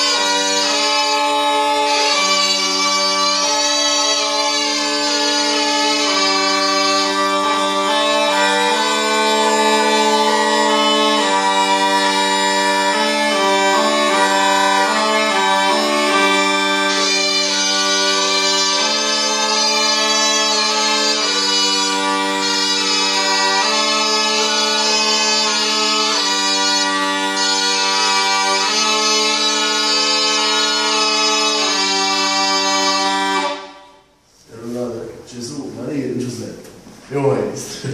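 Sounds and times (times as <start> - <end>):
bagpipe melody over drones: 0.0 - 34.0.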